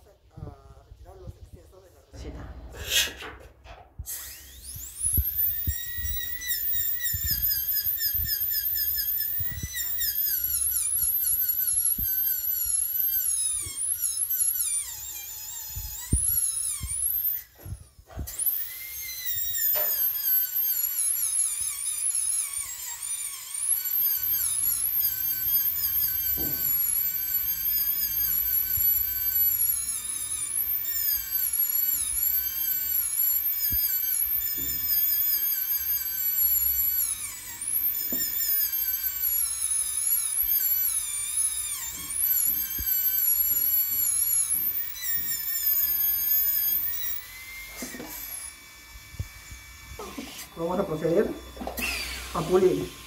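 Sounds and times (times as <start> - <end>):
dental drill whining: 0.0 - 53.0.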